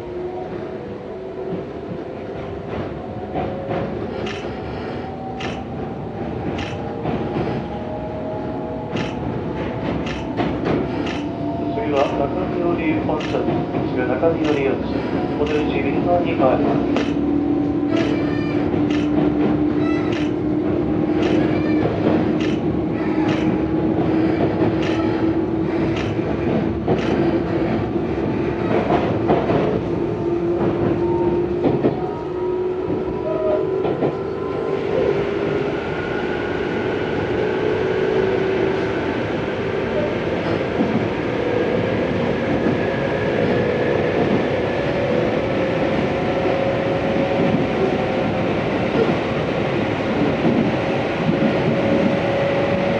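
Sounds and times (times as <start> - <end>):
train drive whine: 0.0 - 52.9.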